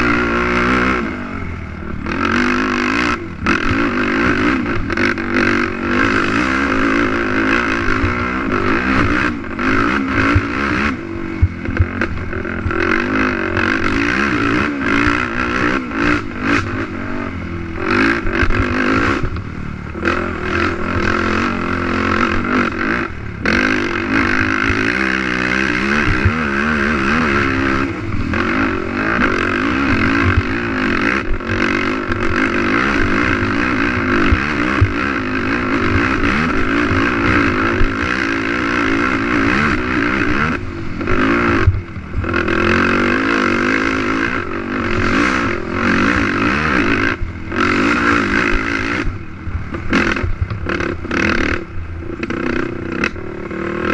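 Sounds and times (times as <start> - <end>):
quad engine revving: 0.0 - 53.9.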